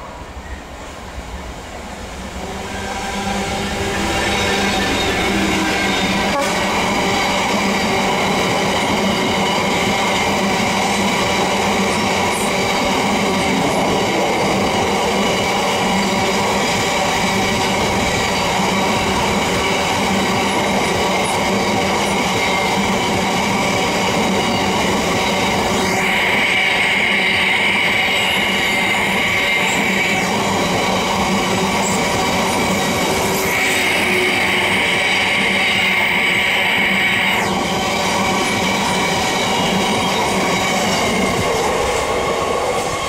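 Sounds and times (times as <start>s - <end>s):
freight train wheels rumbling: 0.0s - 43.0s.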